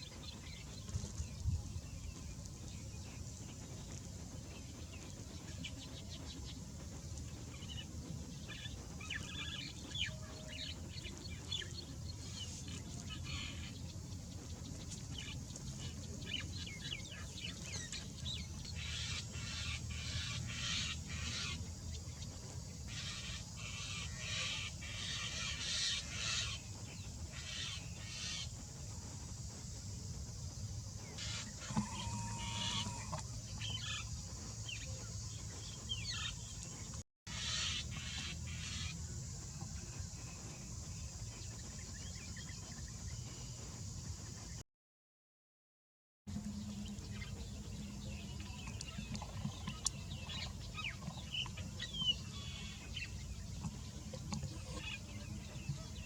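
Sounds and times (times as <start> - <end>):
birds chirping: 0.0 - 44.6, 46.3 - 56.0
steady low hum: 0.0 - 44.6, 46.3 - 56.0.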